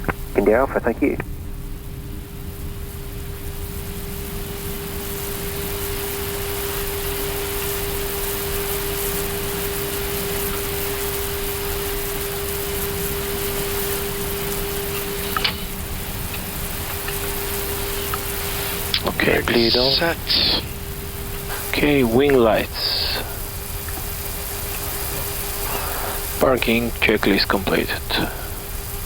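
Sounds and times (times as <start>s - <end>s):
air conditioning hiss: 0.0s - 29.0s
electrical hum: 0.0s - 29.0s.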